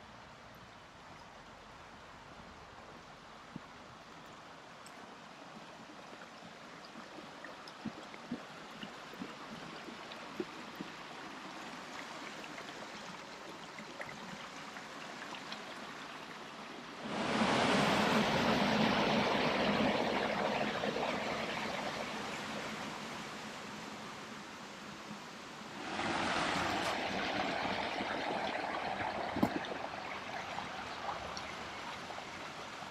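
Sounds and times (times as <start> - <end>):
faint steady hiss: 0.0 - 32.9
stream water rushing: 1.6 - 32.9.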